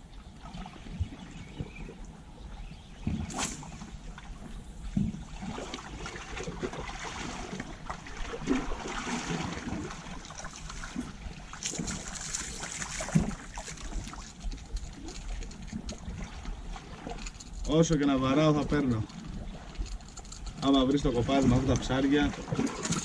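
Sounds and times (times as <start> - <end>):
water lapping against rocks: 3.0 - 23.0.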